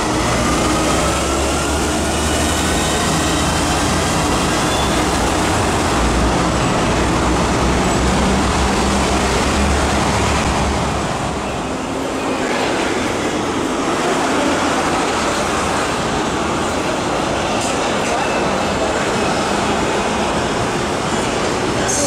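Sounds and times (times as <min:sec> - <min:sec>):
electric train running on track: 0:00.0 - 0:22.0.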